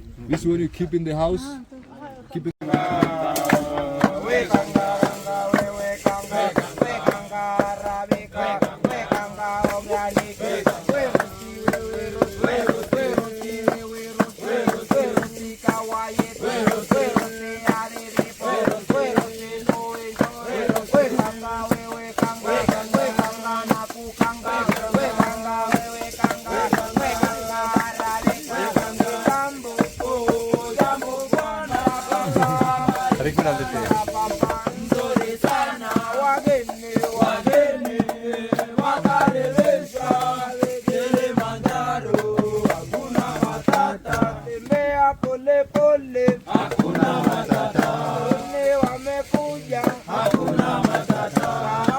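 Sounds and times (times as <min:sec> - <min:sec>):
person singing to music: 0:02.6 - 0:51.9
shaken rattle: 0:02.6 - 0:51.9.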